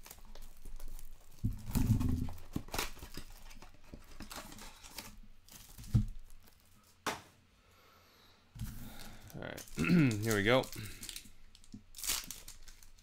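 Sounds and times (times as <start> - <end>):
shrink-wrap tearing and crinkling: 0.0 - 6.8, 8.6 - 13.0
card packs crackling and rustling: 0.0 - 7.0, 8.6 - 13.0.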